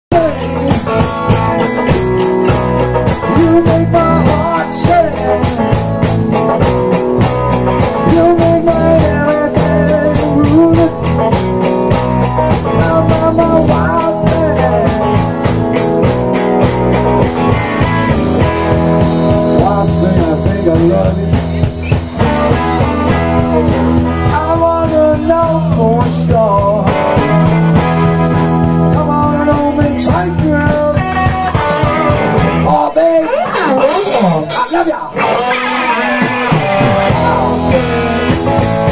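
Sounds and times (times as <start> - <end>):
electric bass: 0.0 - 38.9
drum kit: 0.1 - 38.9
electric guitars: 0.1 - 38.9.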